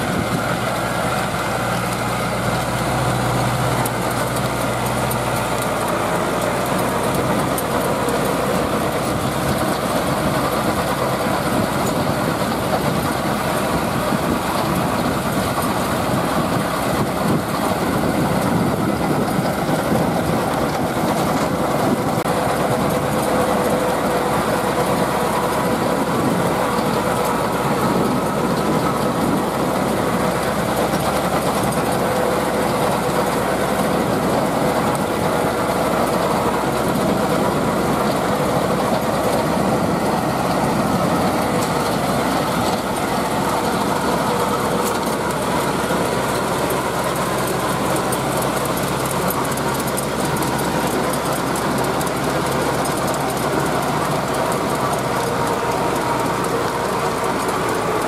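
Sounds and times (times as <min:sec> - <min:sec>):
tiller blades churning soil: 0:00.0 - 0:58.0
tractor diesel engine running: 0:00.0 - 0:58.0.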